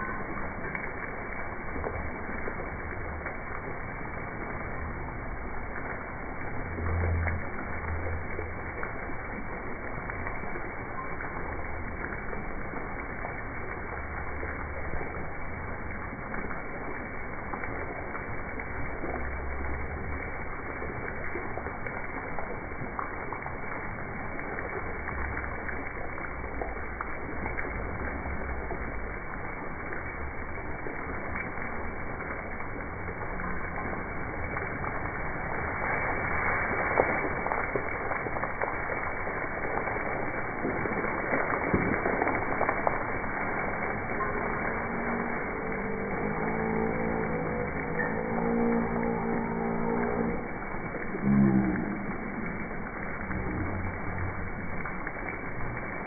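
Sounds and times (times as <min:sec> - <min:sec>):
fountain water splashing: 0:00.0 - 0:56.0
low rumble: 0:00.0 - 0:56.0.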